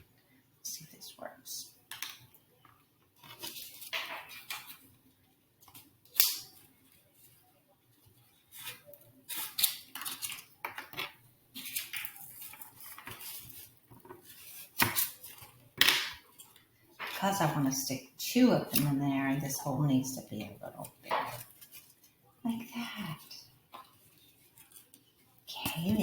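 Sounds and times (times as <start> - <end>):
paper and stems rustling: 3.1 - 17.8, 18.6 - 26.0.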